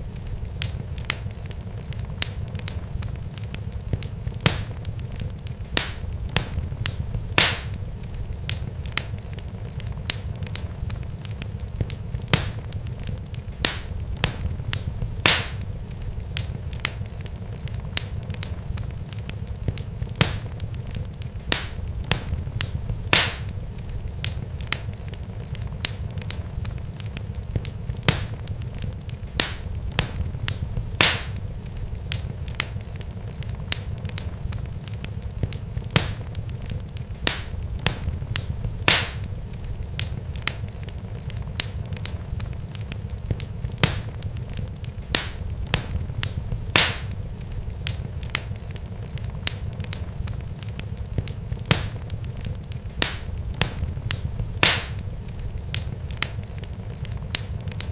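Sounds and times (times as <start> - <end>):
steady low rumble: 0.0 - 57.3
sharp crackles and pops: 0.0 - 57.9.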